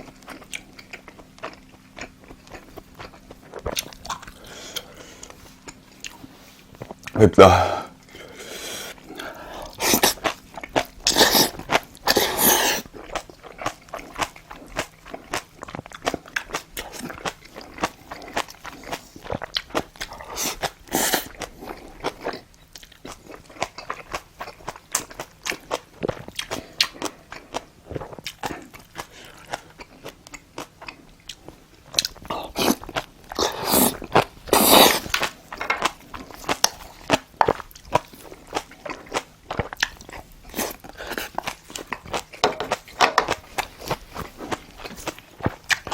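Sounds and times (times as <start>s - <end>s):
chewing and biting food: 0.0s - 7.2s, 8.0s - 45.9s.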